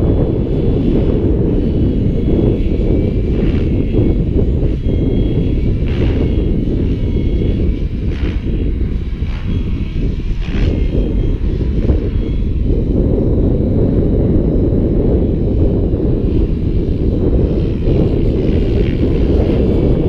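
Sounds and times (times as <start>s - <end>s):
rc helicopter motor whine: 0.0s - 20.0s
rotor whoosh: 0.0s - 20.0s
wind rumble on microphone: 0.0s - 20.0s.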